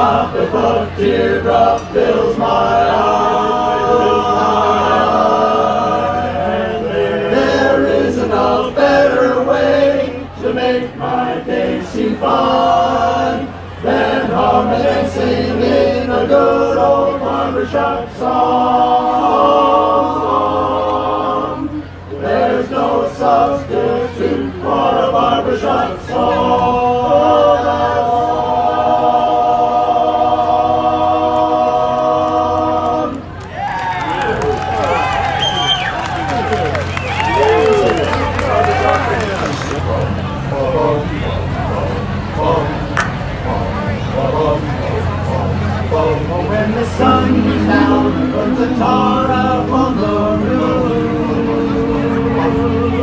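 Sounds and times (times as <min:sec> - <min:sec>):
men's chorus singing a cappella: 0:00.0 - 0:33.3, 0:37.3 - 0:53.0.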